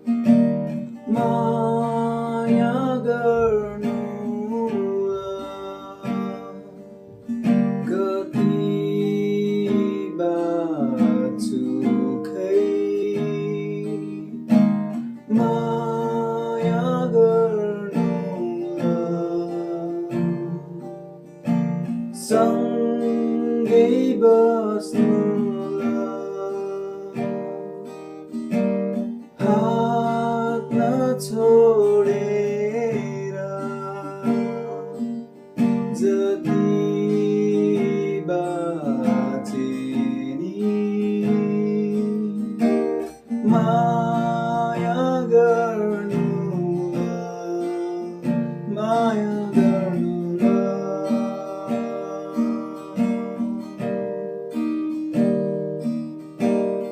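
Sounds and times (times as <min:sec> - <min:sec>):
acoustic guitar strumming chords: 0:00.0 - 0:56.9
sliding guitar melody: 0:00.0 - 0:56.9.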